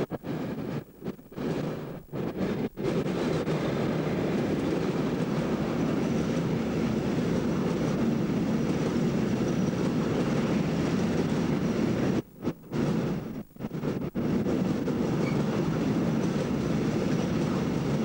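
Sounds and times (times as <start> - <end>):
steel wheels on rail: 0.0 - 18.0.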